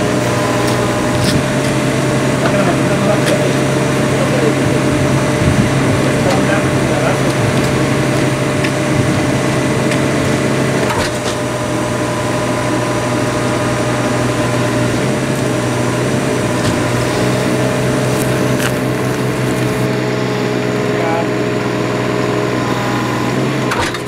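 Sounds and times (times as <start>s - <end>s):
engine-driven machinery running: 0.0s - 24.0s.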